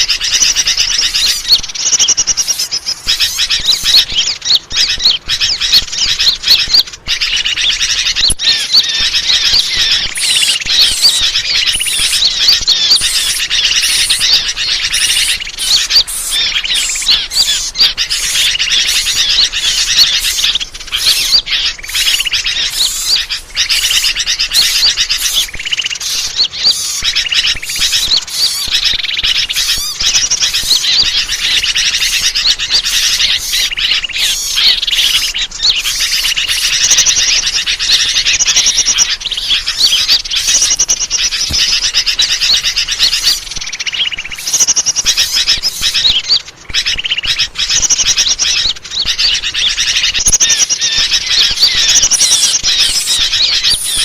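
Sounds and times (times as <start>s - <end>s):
small birds chirping chorus: 0.0s - 54.0s.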